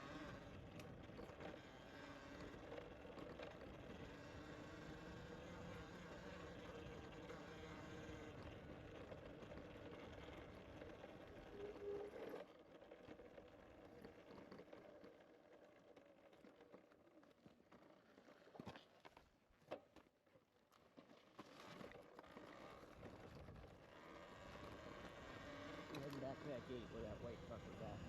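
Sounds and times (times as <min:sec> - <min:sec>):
bicycle riding hum: 0:00.0 - 0:19.1, 0:21.4 - 0:28.0.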